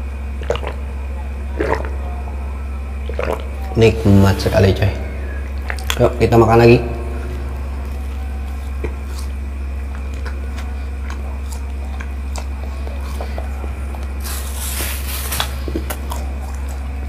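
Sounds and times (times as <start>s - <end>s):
steady low hum: 0.0s - 17.0s
man chewing: 0.4s - 2.2s, 3.0s - 4.4s, 5.0s - 6.0s, 6.9s - 17.0s.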